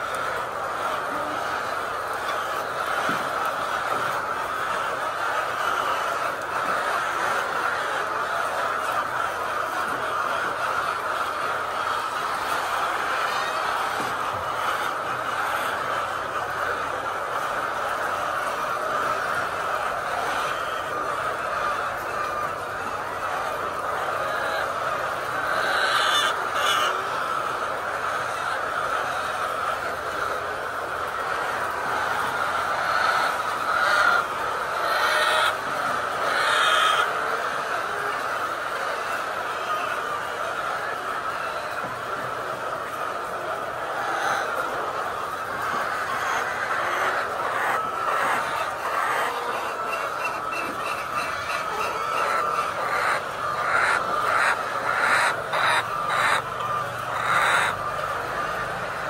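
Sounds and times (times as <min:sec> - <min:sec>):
chickens calling in chorus: 0:00.0 - 0:59.0.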